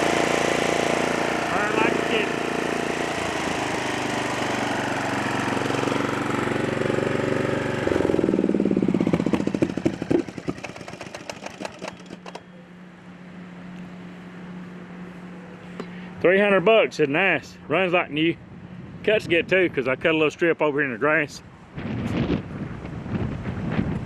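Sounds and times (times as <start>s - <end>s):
riding mower engine running: 0.0s - 24.0s.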